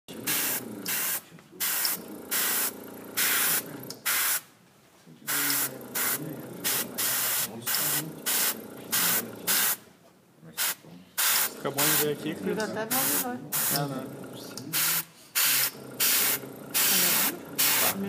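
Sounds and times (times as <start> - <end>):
airbrush spraying bursts: 0.2 - 4.5, 5.3 - 9.8, 10.6 - 12.2, 12.9 - 13.8, 14.7 - 18.0.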